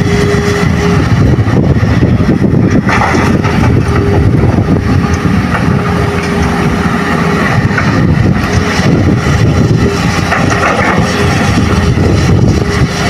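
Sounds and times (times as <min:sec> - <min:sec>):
excavator diesel engine under load: 0:00.0 - 0:13.0.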